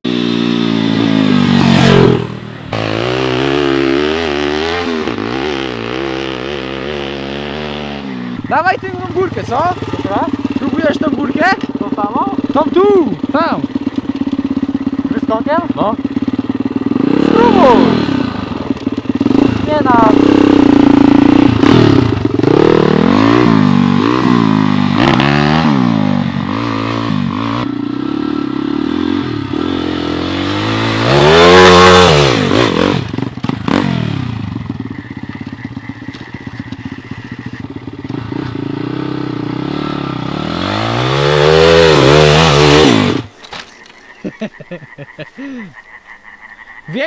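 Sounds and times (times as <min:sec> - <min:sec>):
pit bike engine revving: 0:00.0 - 0:45.7.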